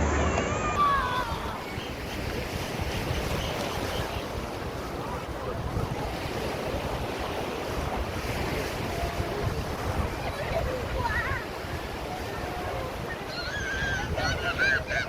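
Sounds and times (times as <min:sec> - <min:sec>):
sea water rushing: 0:00.0 - 0:15.0
wind buffeting microphone: 0:00.0 - 0:15.0.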